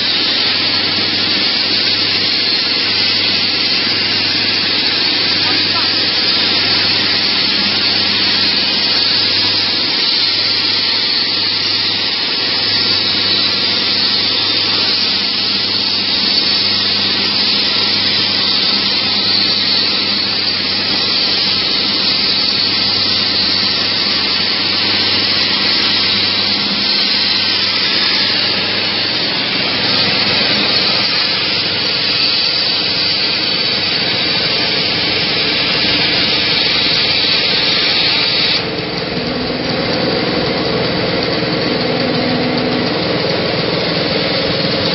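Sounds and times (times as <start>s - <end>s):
plasma cutter hissing: 0.0s - 44.9s.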